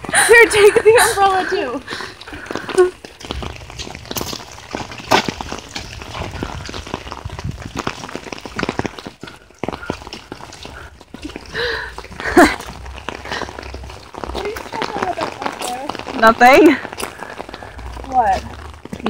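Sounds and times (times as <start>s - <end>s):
footsteps on wet gravel: 0.0s - 19.0s
raindrops tapping: 0.0s - 19.0s.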